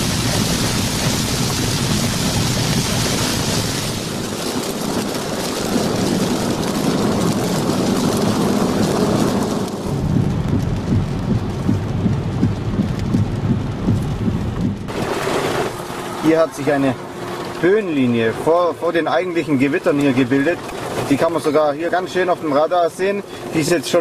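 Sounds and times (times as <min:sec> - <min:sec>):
heavy rain on a car: 0:00.0 - 0:24.0
road and wind noise: 0:00.0 - 0:24.0.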